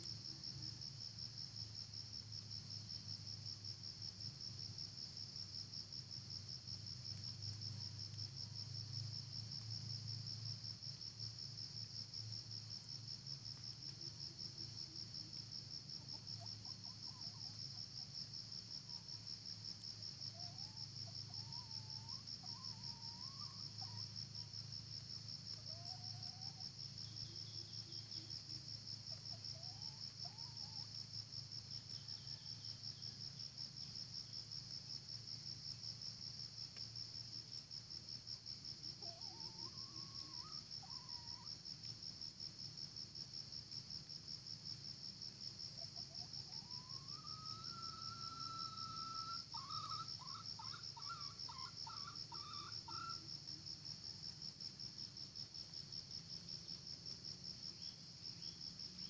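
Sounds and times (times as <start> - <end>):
insect chorus trilling: 0.0 - 59.0.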